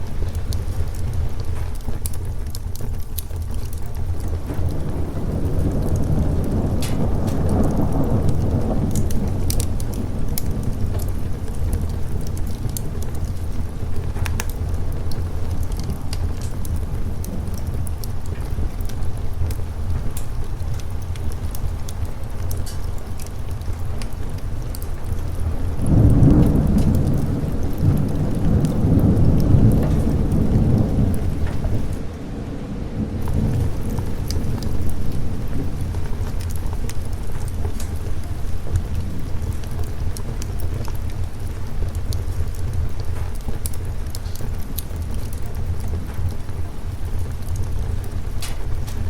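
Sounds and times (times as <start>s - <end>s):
rain falling: 0.0s - 49.0s
thunder rumbling: 0.0s - 49.0s
wood fire crackling: 0.0s - 49.0s.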